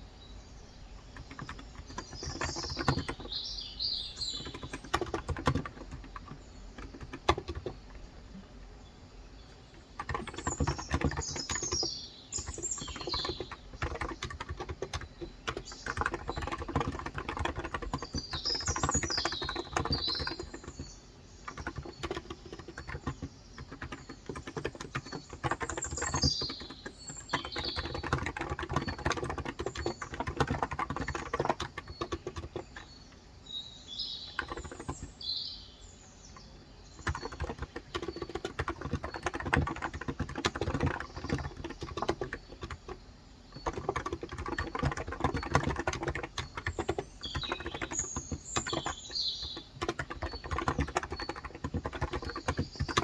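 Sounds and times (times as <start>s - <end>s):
small birds chirping: 0.0s - 53.0s
soft keyboard keystrokes: 1.0s - 3.4s, 4.2s - 8.1s, 9.8s - 33.0s, 34.3s - 35.2s, 36.4s - 53.0s.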